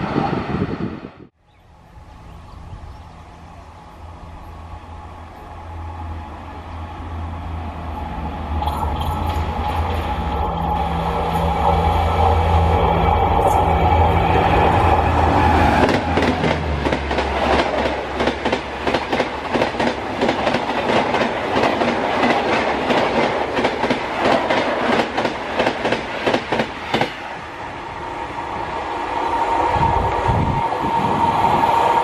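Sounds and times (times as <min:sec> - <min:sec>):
electric locomotive humming: 0:00.0 - 0:32.0
train rushing by: 0:00.0 - 0:32.0.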